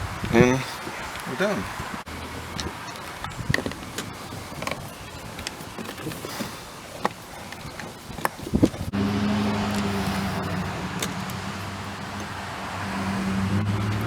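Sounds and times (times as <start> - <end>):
car engine starting and idling: 0.0 - 7.0, 8.6 - 14.0.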